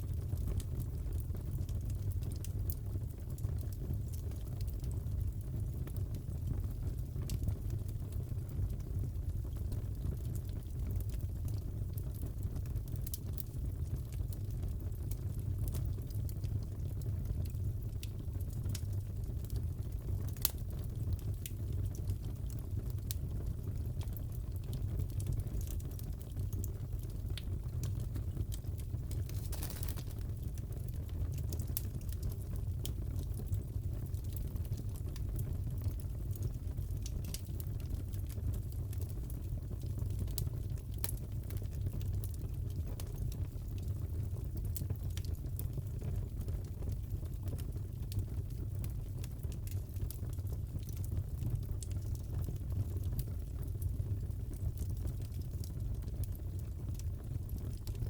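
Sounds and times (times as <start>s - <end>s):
fireplace wood burning: 0.0s - 58.0s
fire pops and snaps: 0.1s - 58.0s.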